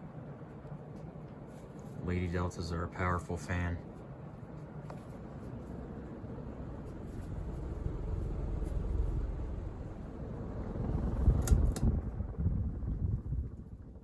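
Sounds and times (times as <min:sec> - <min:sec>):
ceiling fan rumble: 0:00.0 - 0:14.0.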